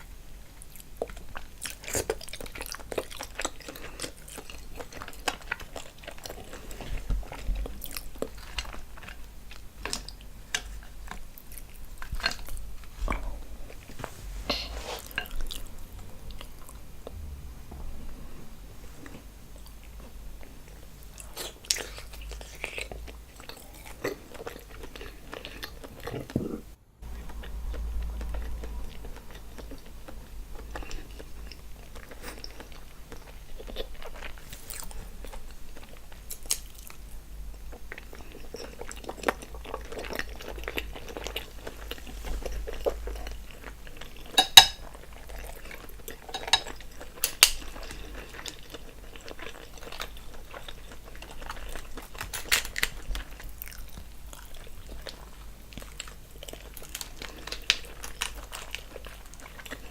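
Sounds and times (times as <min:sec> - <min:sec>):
chewing and biting: 0:00.4 - 0:13.8, 0:19.0 - 0:59.9.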